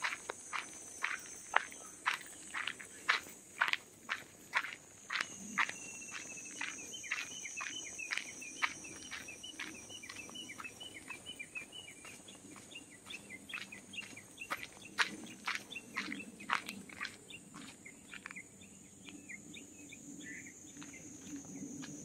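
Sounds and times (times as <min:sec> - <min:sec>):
footsteps crunching on gravel: 0:00.0 - 0:18.4, 0:20.7 - 0:22.0.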